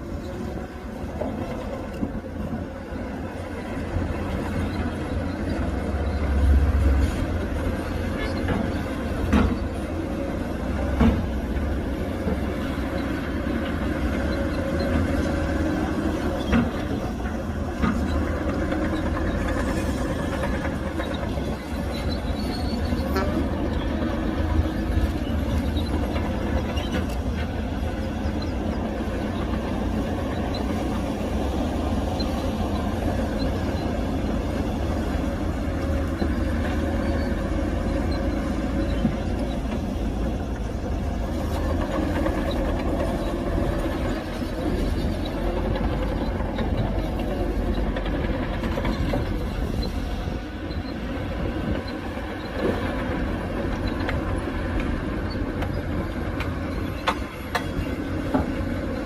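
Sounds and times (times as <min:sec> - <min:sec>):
heavy diesel machinery engine: 0:00.0 - 0:59.0.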